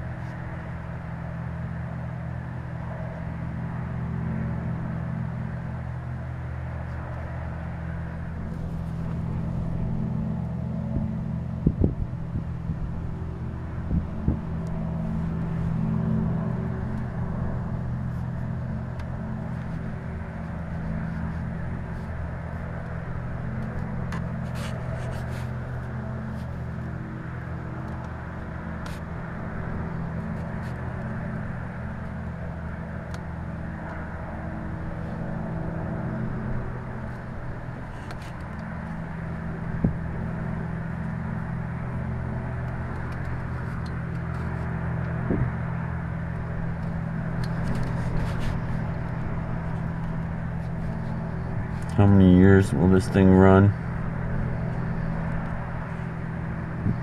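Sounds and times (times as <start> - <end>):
low industrial hum: 0.0 - 57.0
rushing background noise: 0.0 - 57.0.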